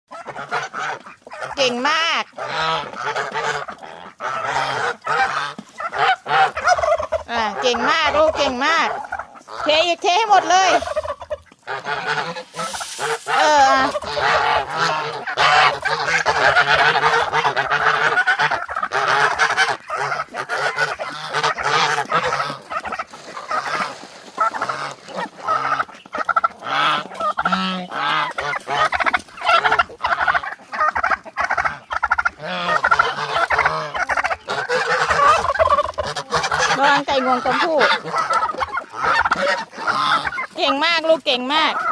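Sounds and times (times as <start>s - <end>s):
turkeys and poultry calling: 0.1s - 41.9s.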